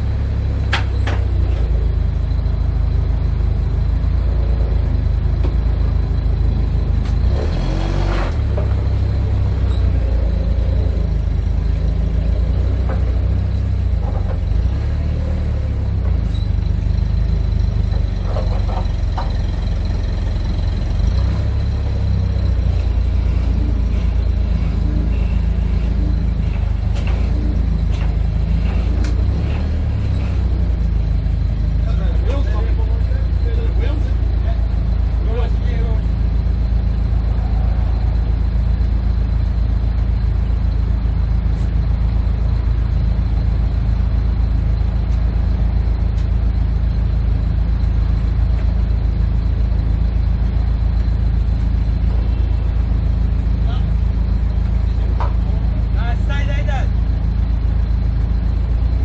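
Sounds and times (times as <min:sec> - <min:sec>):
heavy truck engine running: 0:00.0 - 0:59.0.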